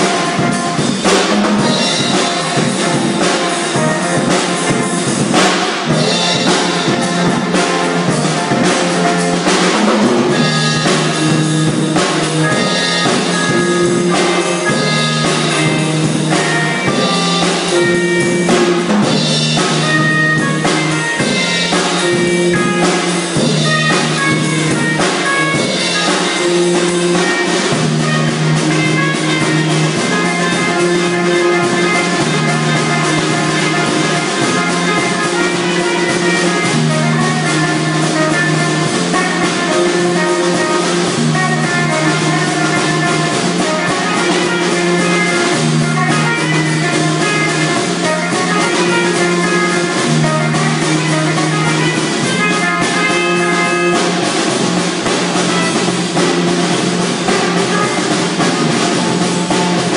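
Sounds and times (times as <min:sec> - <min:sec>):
band song playing: 0:00.0 - 0:59.9
drum kit beat: 0:00.0 - 0:59.9.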